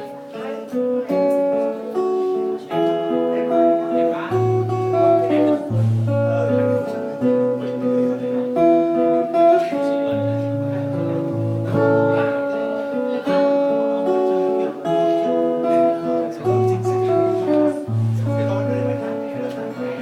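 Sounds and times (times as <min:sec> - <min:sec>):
fingerpicked acoustic guitar: 0:00.0 - 0:20.0.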